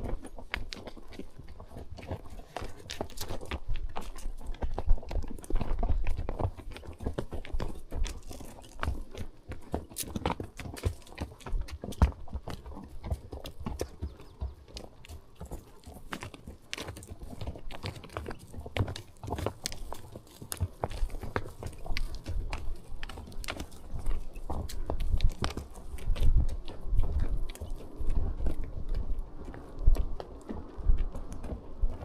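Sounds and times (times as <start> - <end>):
horse hooves on trail: 0.0 - 32.0.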